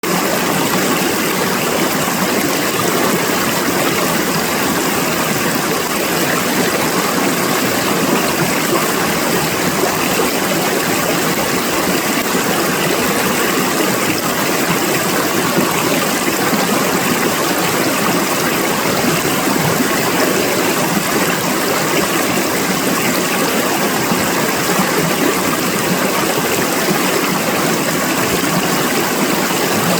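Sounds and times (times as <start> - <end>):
small waterfall splashing: 0.0 - 29.9.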